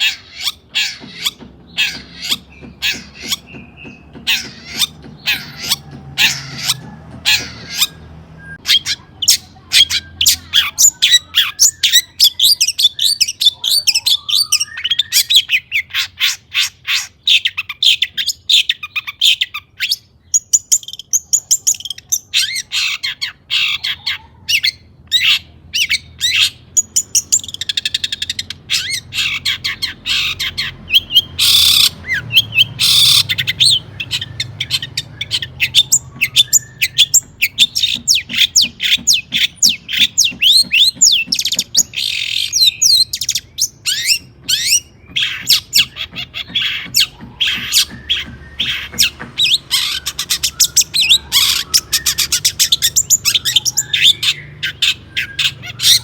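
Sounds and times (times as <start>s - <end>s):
bird singing rapid chirps: 0.0s - 56.0s
harsh rasping bird calls: 0.0s - 56.0s.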